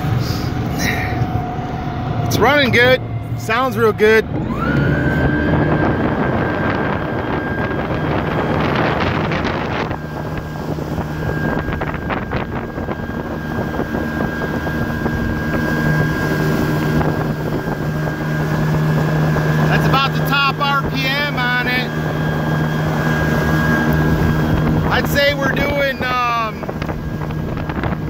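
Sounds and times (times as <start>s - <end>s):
boat engine running: 0.0s - 28.0s
high whine: 0.0s - 28.0s
wind buffeting microphone: 0.0s - 28.0s.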